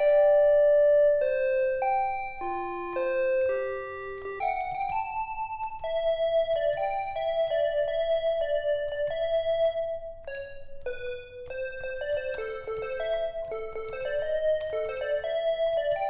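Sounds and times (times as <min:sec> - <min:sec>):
bright keyboard melody: 0:00.0 - 0:16.0.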